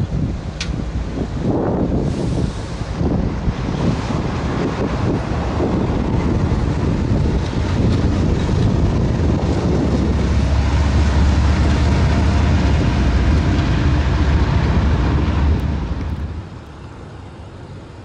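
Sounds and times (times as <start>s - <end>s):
locomotive engine rumble: 0.0s - 18.0s
wheel and rail noise: 0.0s - 18.0s.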